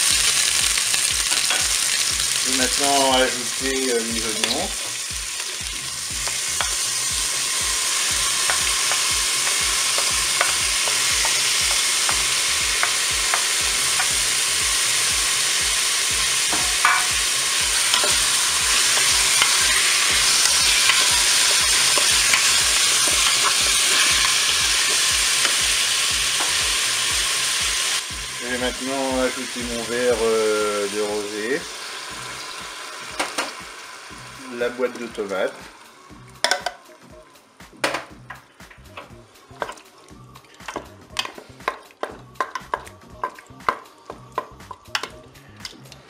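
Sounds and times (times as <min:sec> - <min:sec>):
meat and onions sizzling in oil: 0:00.0 - 0:46.0.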